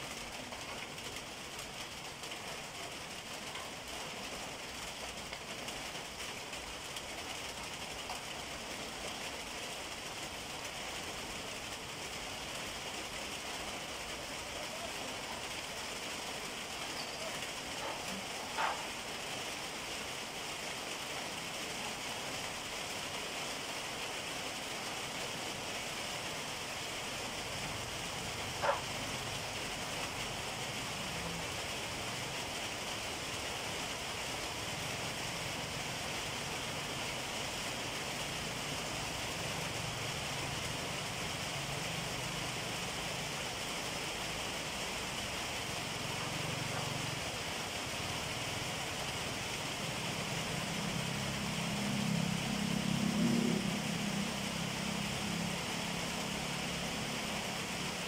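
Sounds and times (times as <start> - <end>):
outdoor background hiss: 0.0 - 58.0.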